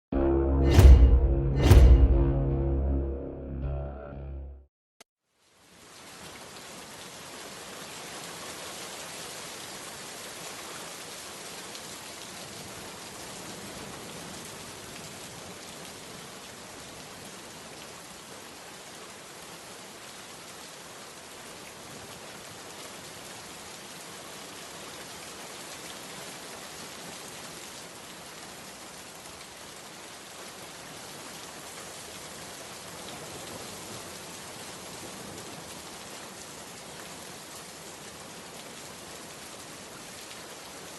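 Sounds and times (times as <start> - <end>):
steady rain falling: 5.2 - 40.9.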